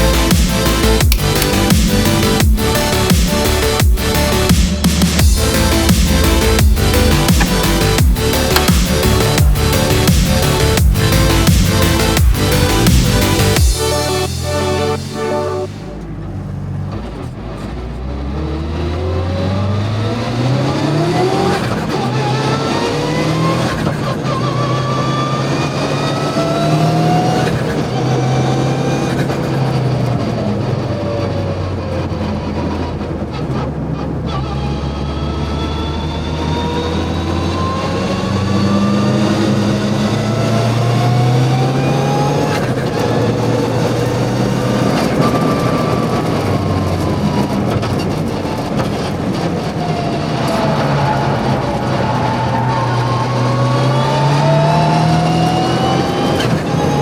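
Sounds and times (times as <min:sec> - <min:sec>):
rally car engine accelerating: 0:00.0 - 0:57.0.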